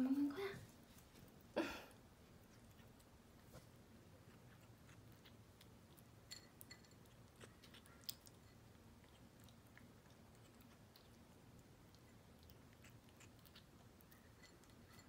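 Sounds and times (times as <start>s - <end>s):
kitten chewing food crunching: 0.7s - 15.0s.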